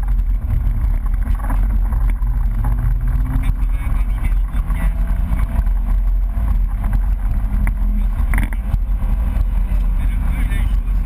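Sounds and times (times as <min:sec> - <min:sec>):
car engine running: 0:00.0 - 0:11.0
road and wind noise: 0:00.0 - 0:11.0.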